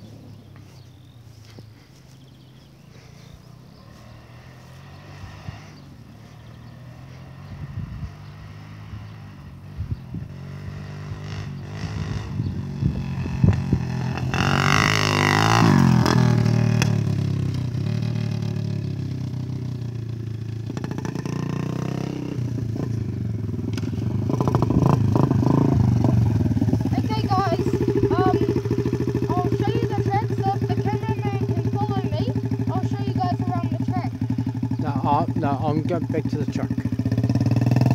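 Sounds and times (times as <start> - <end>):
dirt bike engine revving: 2.4 - 37.9.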